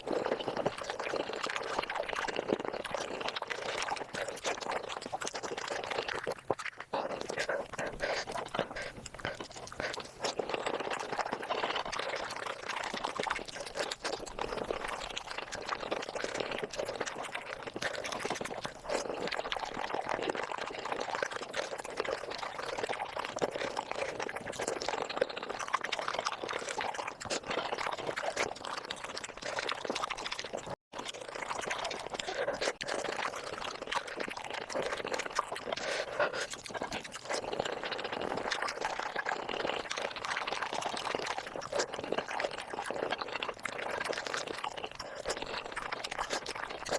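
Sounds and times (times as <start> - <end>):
wet chewing and sucking: 0.0 - 46.9.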